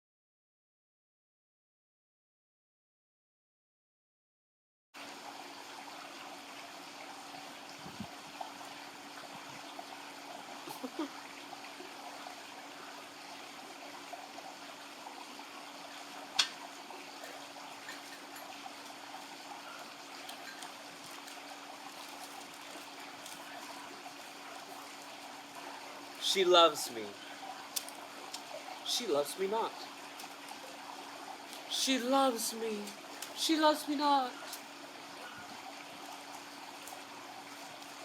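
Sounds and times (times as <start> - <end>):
faint steady hum: 5.0 - 38.0
steady background hiss: 5.0 - 38.0.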